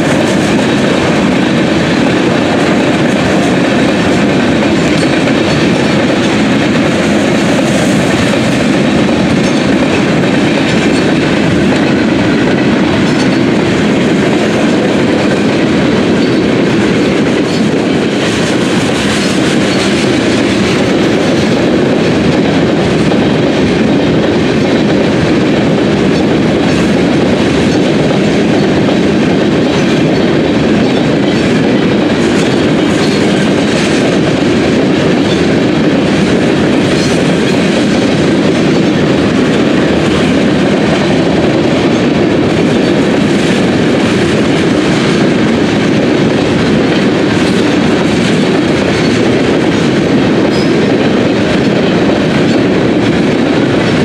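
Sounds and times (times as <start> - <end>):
steel wheels rumbling on rail: 0.0 - 54.0
wheels clicking over rail joints: 0.0 - 54.0.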